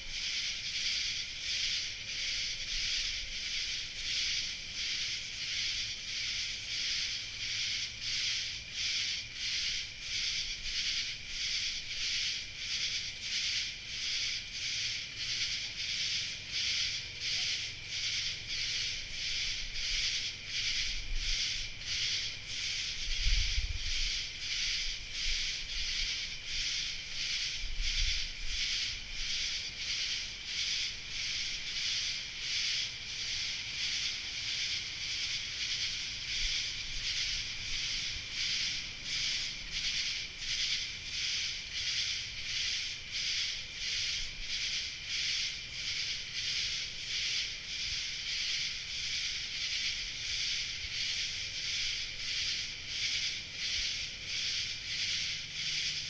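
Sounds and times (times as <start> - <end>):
night insects pulsing: 0.0 - 56.0.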